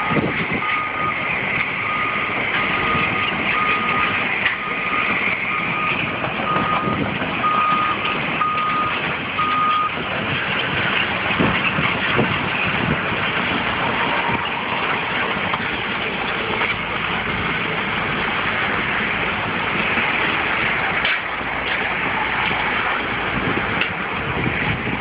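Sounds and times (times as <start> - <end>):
heavy vehicles running: 0.0 - 25.0.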